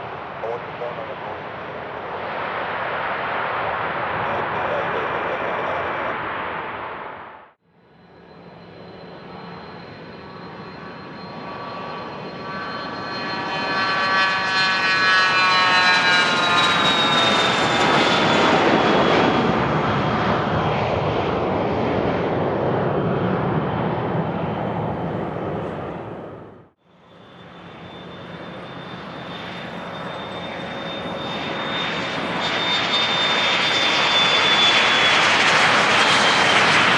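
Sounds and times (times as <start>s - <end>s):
jet engines whining roar: 0.0s - 36.9s.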